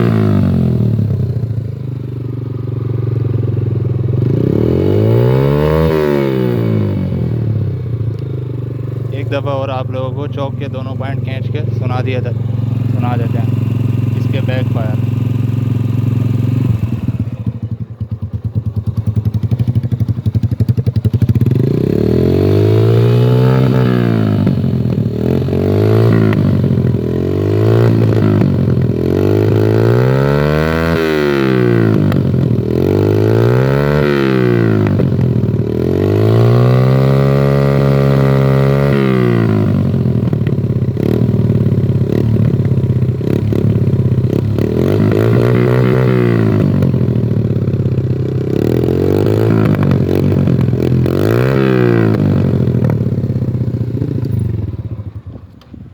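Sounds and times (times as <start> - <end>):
exhaust backfiring: 0.0 - 1.7, 3.2 - 55.9
motorcycle engine revving: 0.0 - 55.9.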